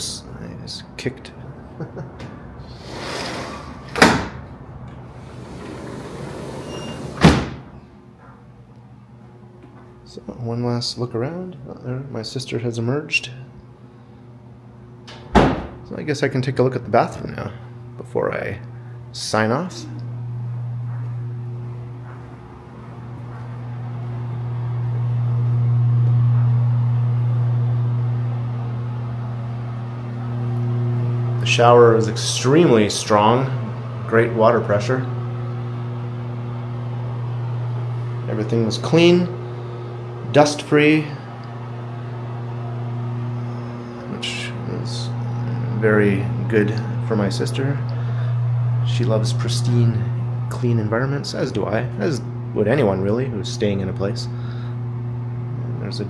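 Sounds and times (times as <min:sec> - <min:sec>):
exhaust fan humming: 0:00.0 - 0:56.0.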